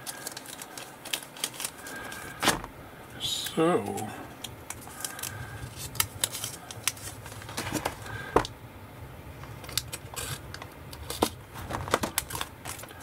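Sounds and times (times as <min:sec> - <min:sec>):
paper and cellophane rustling: 0:00.0 - 0:02.6, 0:03.8 - 0:08.4, 0:09.6 - 0:13.0.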